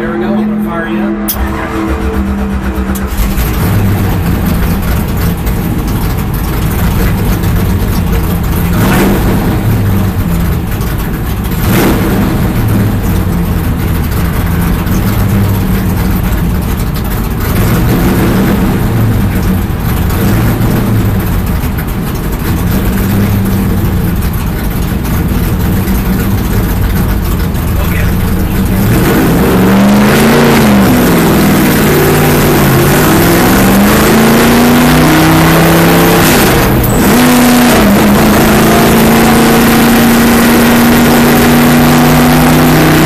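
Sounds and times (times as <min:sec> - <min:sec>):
race car engine idling: 0:00.0 - 0:43.0.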